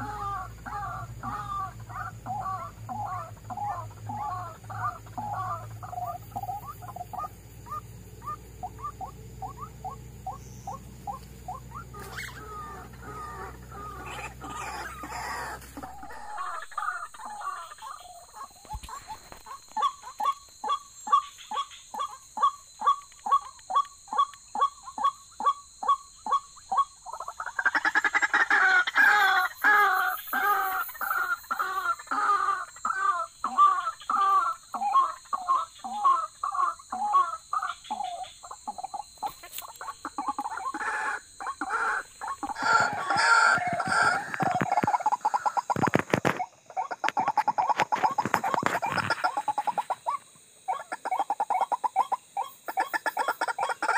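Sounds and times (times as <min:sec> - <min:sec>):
waterhen croaking calls: 0:00.0 - 0:53.9.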